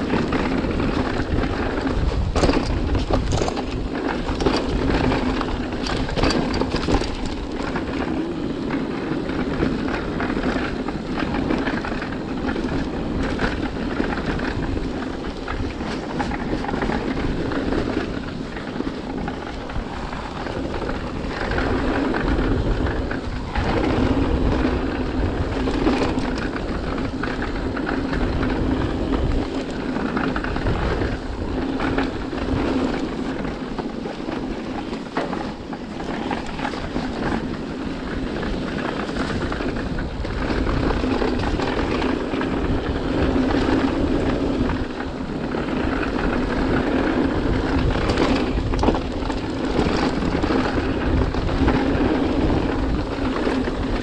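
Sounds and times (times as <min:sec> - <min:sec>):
bike knocking and rattling: 0:00.0 - 0:54.0
wind rushing across microphone: 0:00.0 - 0:54.0.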